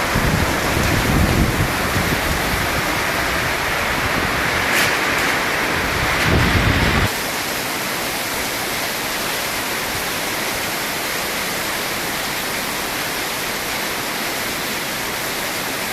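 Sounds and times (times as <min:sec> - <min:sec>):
heavy rain pouring: 0:00.0 - 0:15.9.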